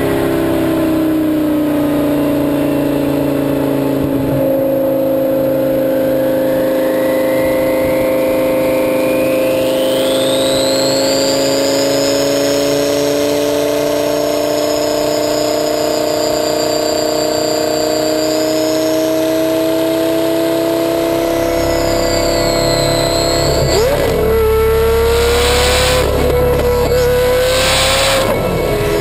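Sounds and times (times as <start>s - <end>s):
car engine cruising: 0.0s - 29.0s
thin high whine: 3.8s - 29.0s.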